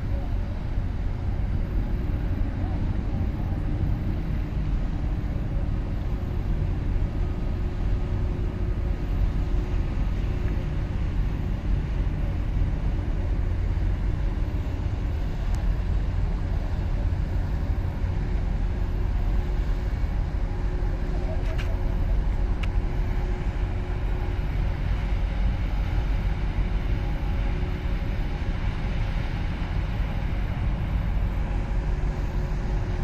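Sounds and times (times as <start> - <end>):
boat engine rumble: 0.0 - 33.0
faint constant hum: 0.0 - 33.0.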